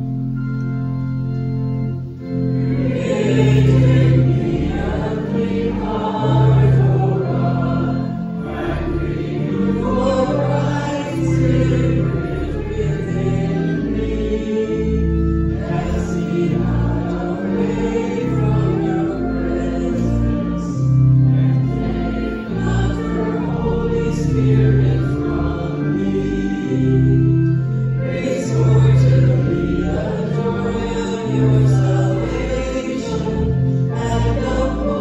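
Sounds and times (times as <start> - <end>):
congregation singing a hymn: 0.0 - 35.0
instrumental accompaniment: 0.0 - 35.0.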